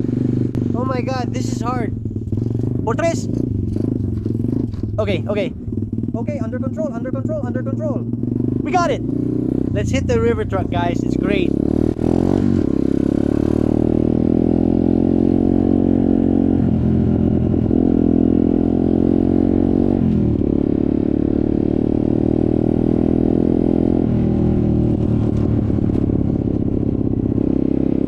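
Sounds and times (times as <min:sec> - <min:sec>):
off-road motorcycle engine: 0:00.0 - 0:28.0.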